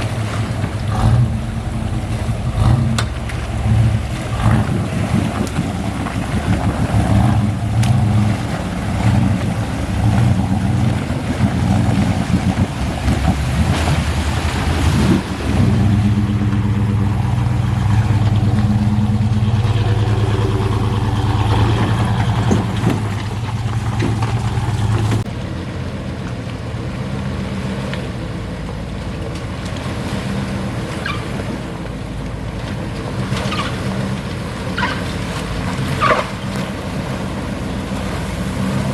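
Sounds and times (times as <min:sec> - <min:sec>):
off-road vehicle engine: 0:00.0 - 0:38.9.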